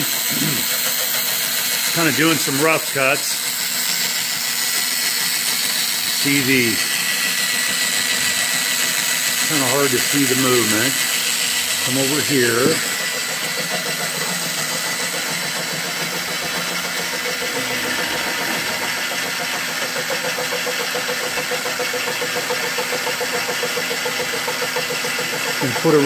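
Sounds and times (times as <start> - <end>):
boring machine cutting metal: 0.0 - 26.0.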